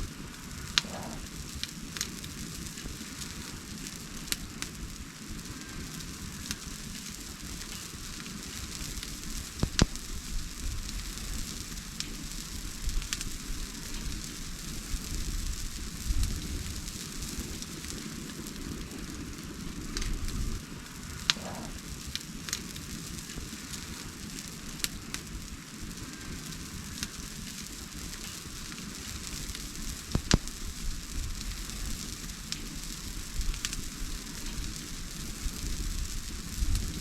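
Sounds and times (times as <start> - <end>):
bonfire crackling and hissing: 0.0 - 37.0
sharp fire pops: 0.0 - 37.0.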